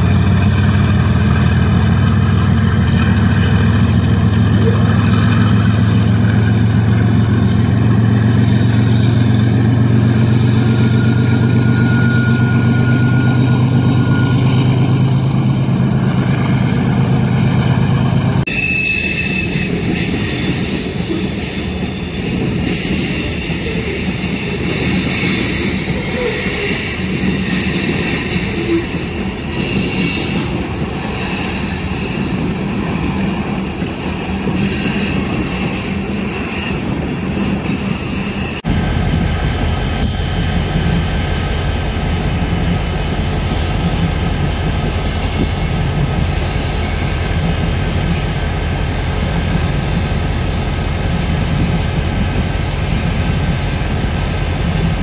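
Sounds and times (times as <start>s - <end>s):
locomotive engines humming: 0.0s - 18.5s, 19.3s - 55.0s
high-pitched wheel squeal: 3.0s - 55.0s.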